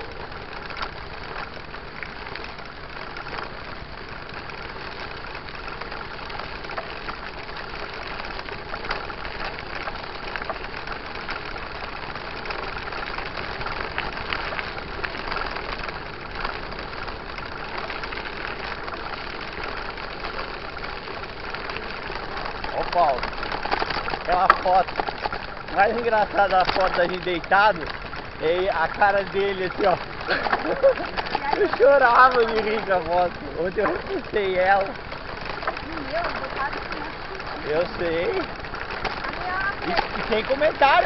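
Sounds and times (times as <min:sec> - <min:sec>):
bike rolling on dirt road: 0:00.0 - 0:41.0
small clicks and rattles: 0:00.0 - 0:41.0.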